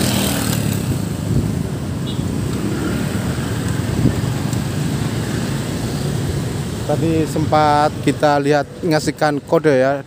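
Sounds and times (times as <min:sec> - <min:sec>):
cars passing: 0:00.0 - 0:10.0
motorcycles passing: 0:00.0 - 0:10.0.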